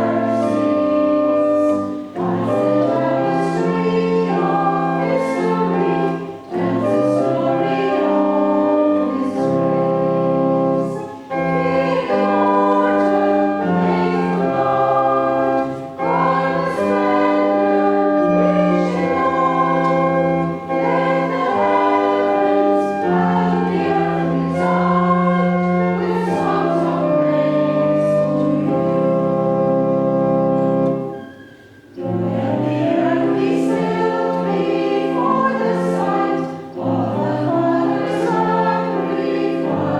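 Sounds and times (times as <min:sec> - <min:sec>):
many voices singing a hymn: 0:00.0 - 0:31.3, 0:32.0 - 0:39.9
organ: 0:00.0 - 0:39.9.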